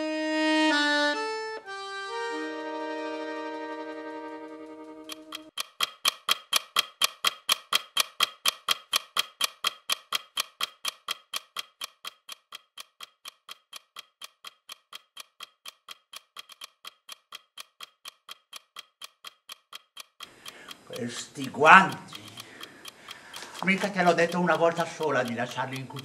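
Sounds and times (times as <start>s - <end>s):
clock ticking: 3.4s - 26.0s.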